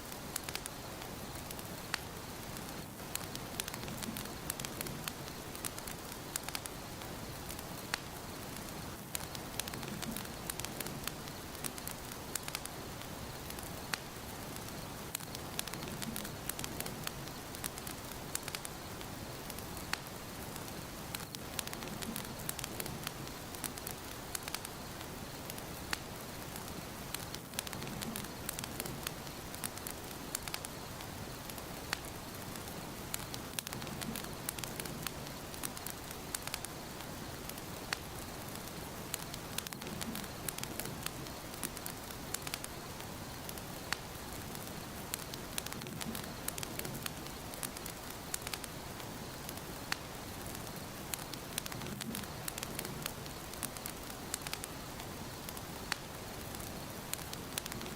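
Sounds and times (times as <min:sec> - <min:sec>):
fire crackling in fireplace: 0:00.0 - 0:57.9.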